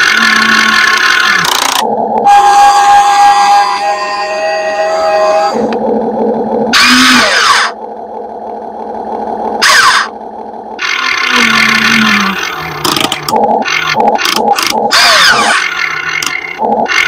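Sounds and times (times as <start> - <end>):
excavator machinery whirring: 0.0 - 17.0
steady hum: 0.0 - 17.0.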